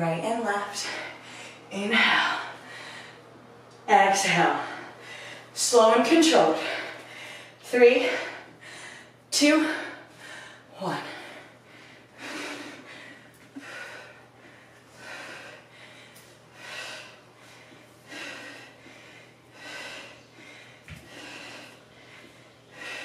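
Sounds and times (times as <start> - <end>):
woman breathing hard: 0.8 - 3.3, 4.6 - 5.6, 6.5 - 23.0.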